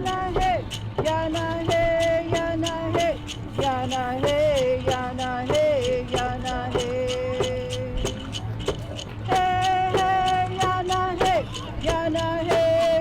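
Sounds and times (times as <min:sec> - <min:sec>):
voices singing a chant: 0:00.0 - 0:13.0.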